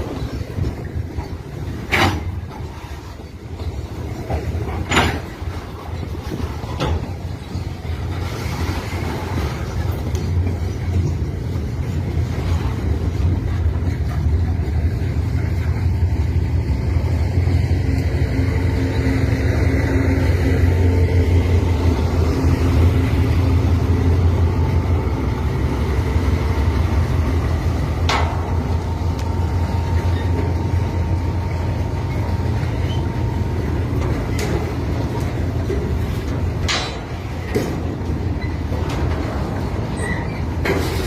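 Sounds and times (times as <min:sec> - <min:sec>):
freight train rumbling on rails: 0:00.0 - 0:41.0.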